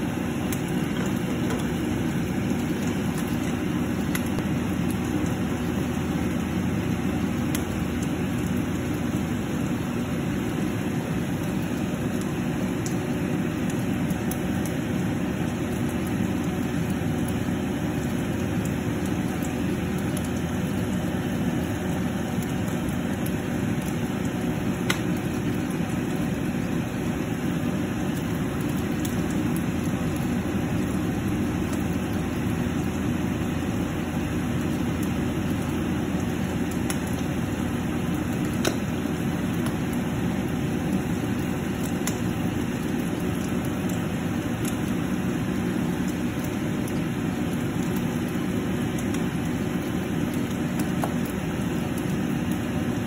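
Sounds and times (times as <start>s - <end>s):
sauce bubbling in a pan: 0.0s - 53.0s.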